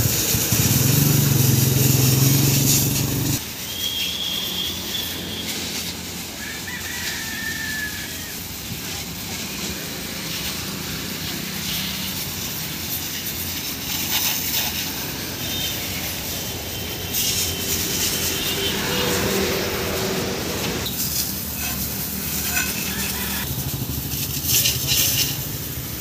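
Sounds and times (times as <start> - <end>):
pressure washer jet hissing: 0.0 - 26.0.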